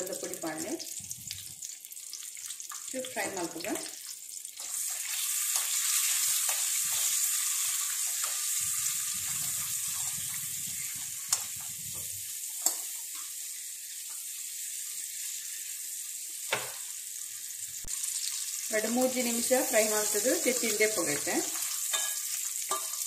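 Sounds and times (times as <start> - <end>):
eggs sizzling in a pan: 0.0 - 23.0.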